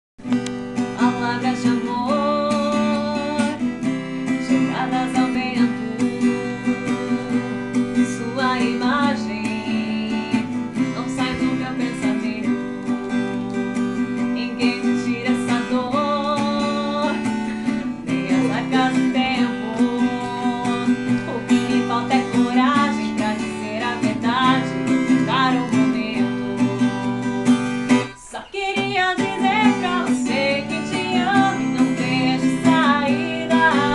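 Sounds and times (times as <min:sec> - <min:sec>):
acoustic guitar melody: 0:00.2 - 0:33.9.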